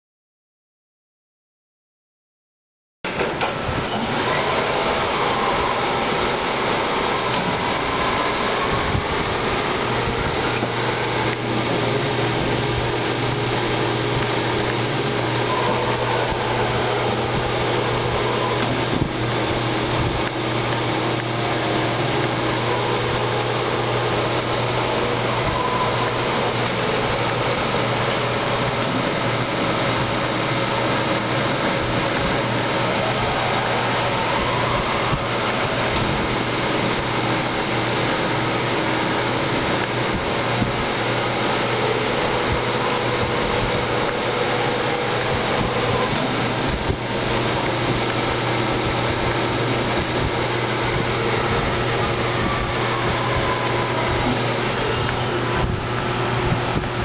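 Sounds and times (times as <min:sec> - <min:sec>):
machine hum and hiss: 0:03.4 - 0:57.0.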